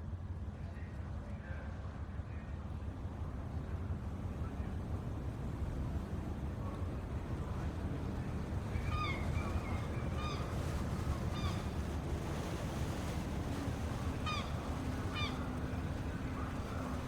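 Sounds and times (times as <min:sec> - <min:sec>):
low rumble of water and wind: 0:00.0 - 0:17.0.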